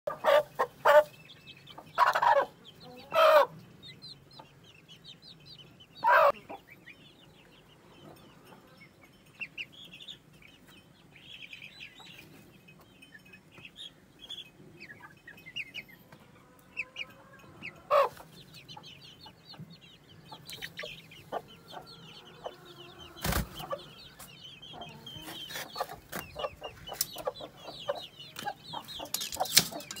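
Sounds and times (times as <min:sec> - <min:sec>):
chickens clucking and peeping: 0:00.1 - 0:30.0.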